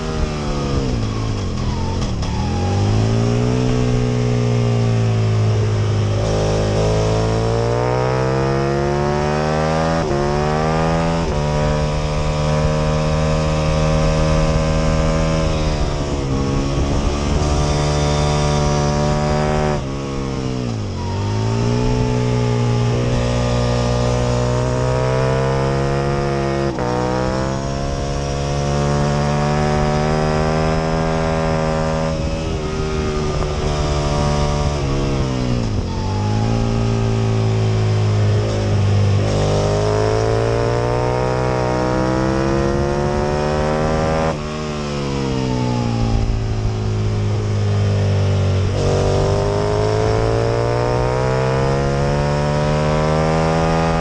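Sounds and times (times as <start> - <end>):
motorcycle engine revving through gears: 0.0 - 54.0.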